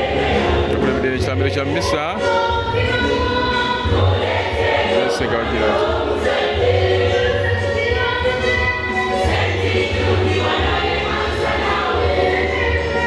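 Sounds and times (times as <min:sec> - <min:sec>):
children's choir singing in harmony: 0:00.0 - 0:01.1, 0:01.8 - 0:13.0.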